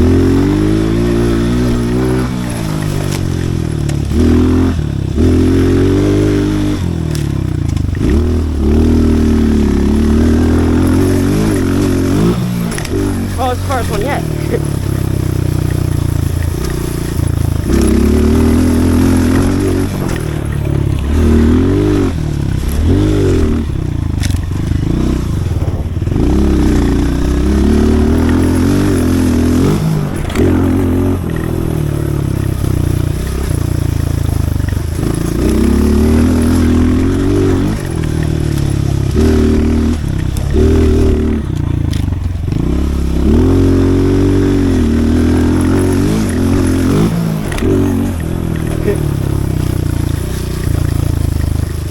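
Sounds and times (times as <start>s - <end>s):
small motorbike engine revving: 0.0s - 51.9s.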